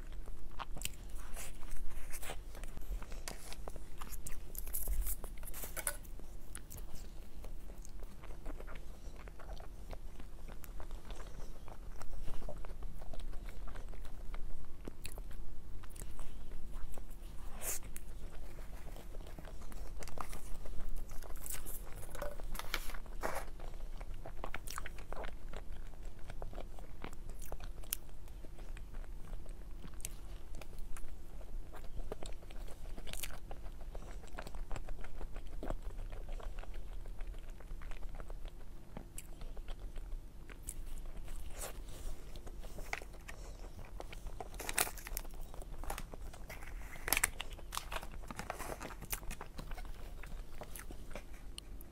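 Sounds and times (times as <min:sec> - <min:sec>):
small crunches: 0:00.0 - 0:14.2, 0:14.8 - 0:31.1, 0:31.7 - 0:51.9
faint hum: 0:00.0 - 0:51.9
person chewing cake: 0:00.0 - 0:51.9.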